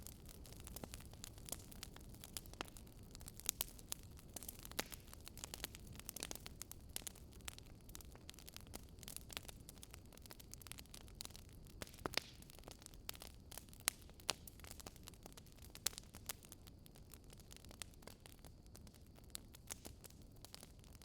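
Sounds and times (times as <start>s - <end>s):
faint steady hiss: 0.0s - 21.0s
wood fire crackling: 0.0s - 21.0s.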